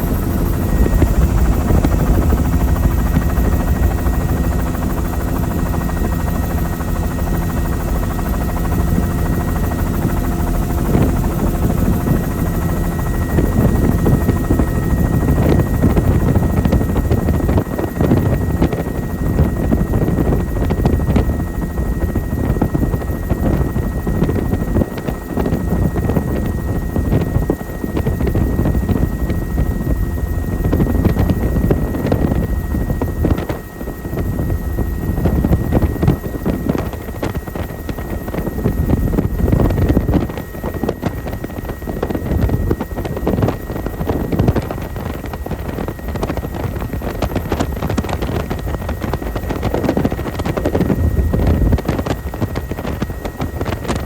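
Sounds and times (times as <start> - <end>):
gusting wind noise: 0.0 - 54.0
helicopter rotor and engine drone: 0.0 - 54.0.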